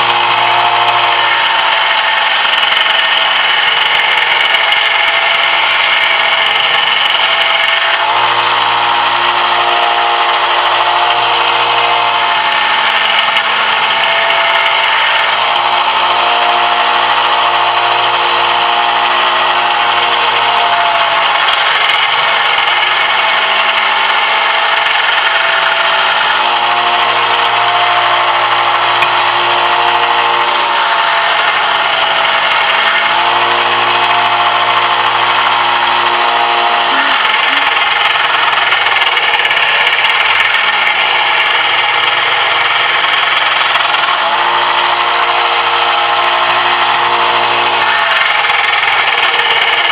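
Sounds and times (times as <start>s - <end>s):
motor hum: 0.0s - 49.9s
power tool grinding brass: 0.0s - 49.9s.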